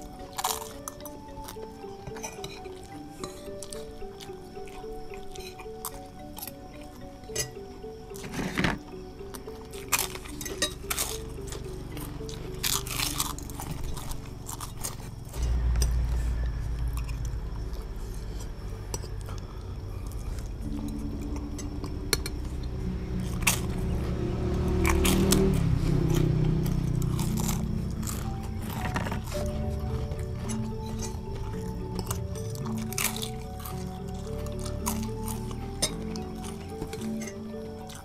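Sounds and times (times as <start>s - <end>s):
background music: 0.0s - 38.0s
people crunching and chewing: 0.0s - 38.0s.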